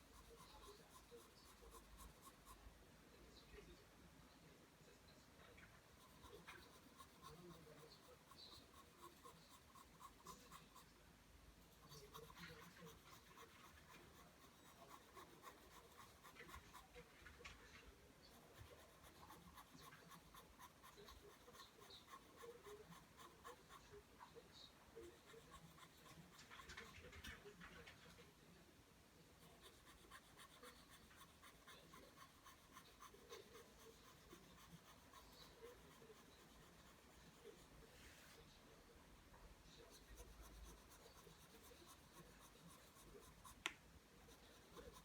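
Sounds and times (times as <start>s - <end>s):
pencil scratching on paper: 0.0s - 2.7s, 5.8s - 10.9s, 11.6s - 28.2s, 29.4s - 38.6s, 39.2s - 45.0s.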